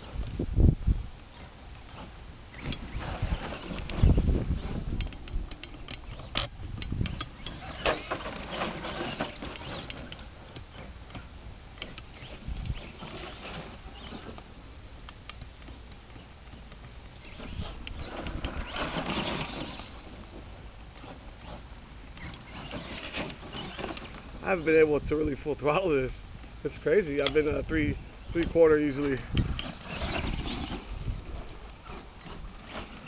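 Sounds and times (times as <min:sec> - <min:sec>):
tyres crackling over dirt: 0:00.0 - 0:33.0
toy truck electric motor whirring: 0:01.3 - 0:25.1, 0:26.7 - 0:33.0.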